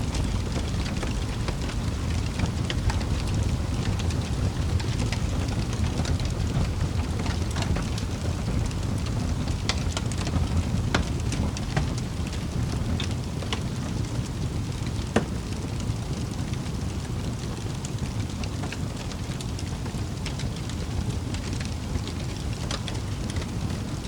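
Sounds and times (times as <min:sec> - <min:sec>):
fire crackles and pops: 0:00.0 - 0:24.0
fire low rumble: 0:00.0 - 0:24.0.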